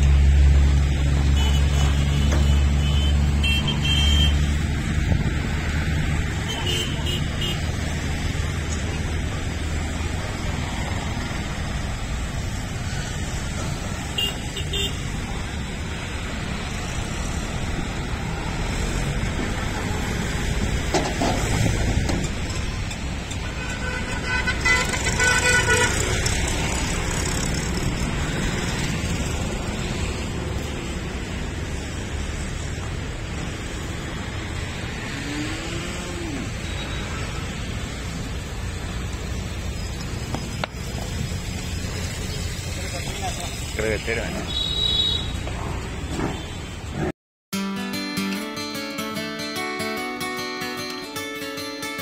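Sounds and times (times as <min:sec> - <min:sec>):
traffic engines rumbling: 0:00.0 - 0:47.2.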